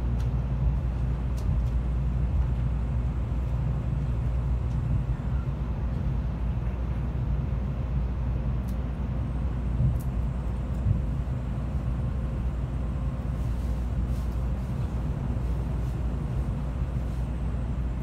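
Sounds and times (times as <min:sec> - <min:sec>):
train cabin rumble: 0:00.0 - 0:18.0.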